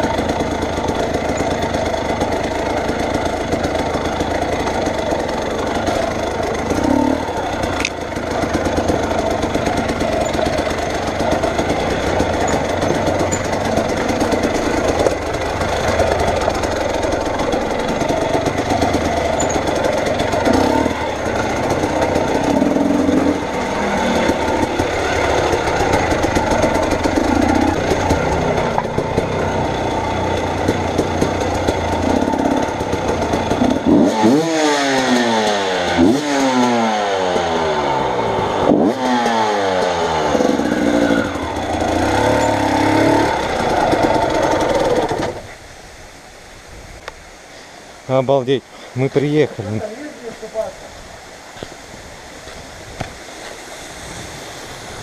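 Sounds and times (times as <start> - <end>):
steady noisy rattle: 0.0 - 36.2, 37.2 - 45.6
vehicle engine running and revving: 0.0 - 45.5.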